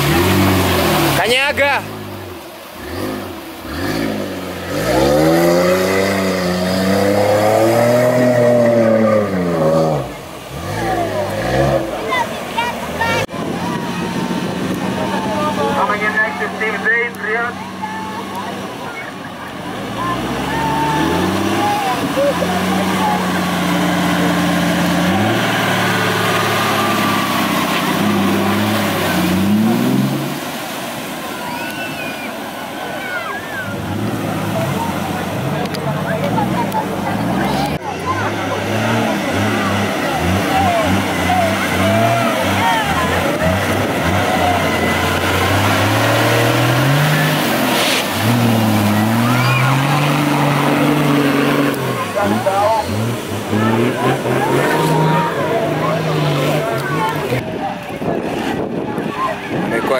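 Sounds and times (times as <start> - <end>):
engine revving hard: 0.0 - 18.8, 19.7 - 30.7, 33.5 - 58.8.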